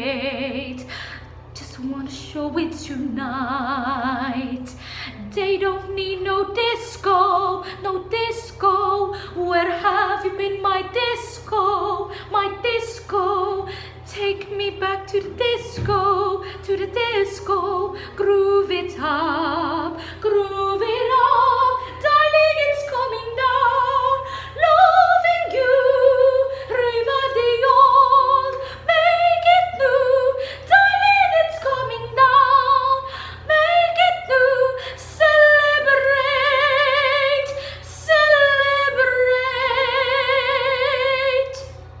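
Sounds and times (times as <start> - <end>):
woman singing operatically: 1.6 - 41.7.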